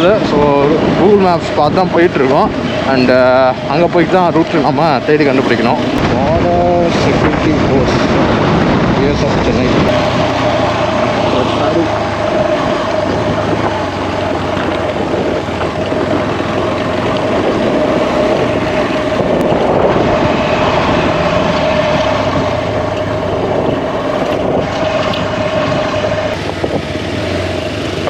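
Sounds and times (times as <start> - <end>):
motorcycle engine running: 0.0 - 28.0
wind noise: 0.0 - 28.0.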